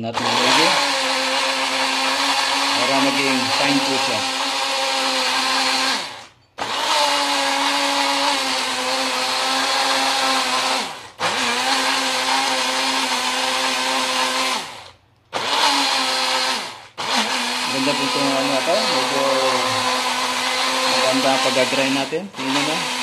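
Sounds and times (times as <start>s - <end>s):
blender motor whining in pulses: 0.0s - 23.0s.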